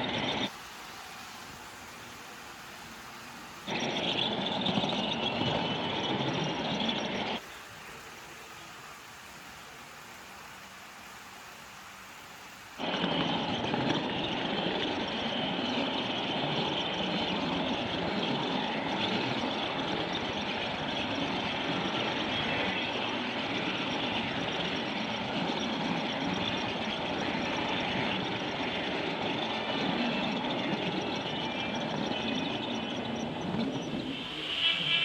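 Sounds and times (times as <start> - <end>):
train running on track: 0.0 - 35.0.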